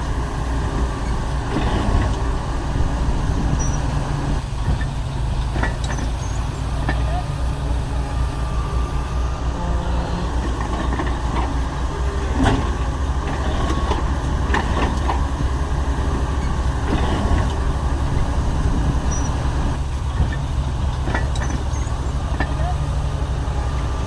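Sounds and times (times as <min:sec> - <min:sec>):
knocks and clanks: 0:00.0 - 0:07.4, 0:09.6 - 0:22.8
diesel machinery engine drone: 0:00.0 - 0:24.0.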